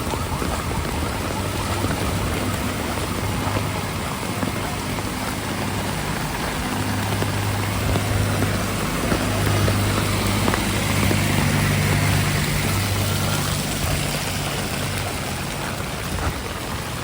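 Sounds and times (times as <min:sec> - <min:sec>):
heavy rain falling: 0:00.0 - 0:17.0
vehicle engine idling: 0:00.0 - 0:17.0.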